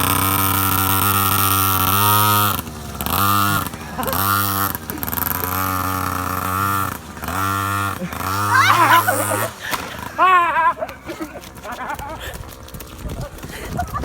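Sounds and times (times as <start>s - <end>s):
mini motorbike engine revving: 0.0s - 14.0s.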